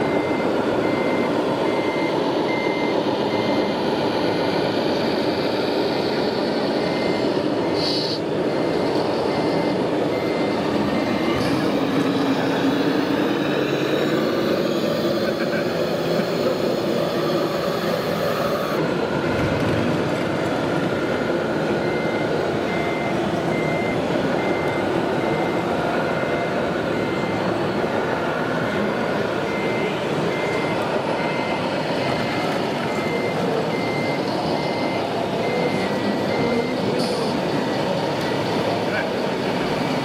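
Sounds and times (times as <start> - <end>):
high reversing beeps: 0.0 - 19.6, 20.8 - 40.0
steady background din: 0.0 - 40.0.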